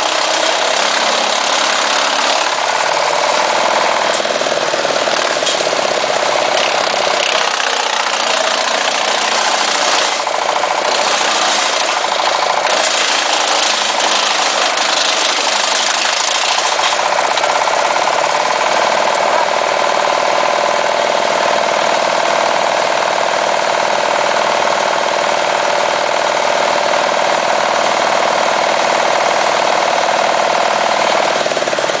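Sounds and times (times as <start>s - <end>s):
wood chipper running: 0.0s - 32.0s.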